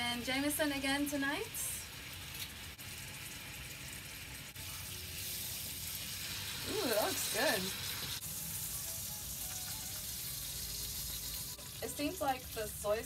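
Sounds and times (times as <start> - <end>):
steak sizzling in frying pan: 1.1 - 13.0.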